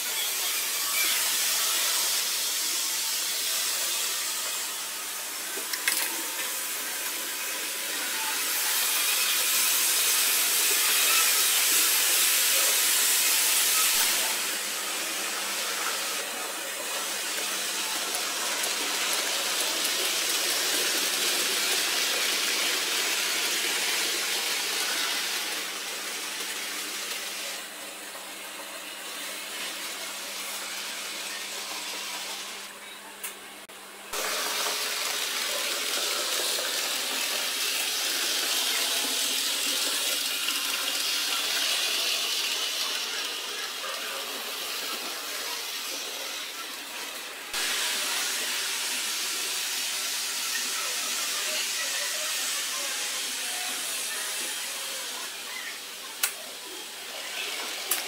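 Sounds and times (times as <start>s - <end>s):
model trains running on track: 0.0s - 32.7s, 34.1s - 58.0s.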